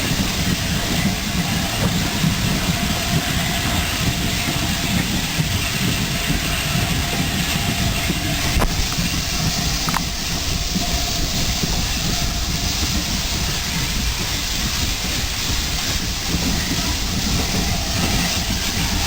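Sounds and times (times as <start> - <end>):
hiss: 0.0 - 19.0
train wheels rumbling on track: 0.0 - 19.0.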